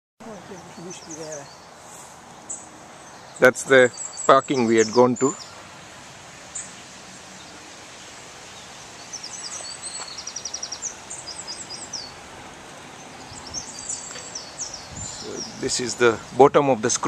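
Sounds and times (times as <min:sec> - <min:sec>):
river water rushing: 0:00.2 - 0:16.9
songbird chirping and trilling: 0:00.2 - 0:17.0.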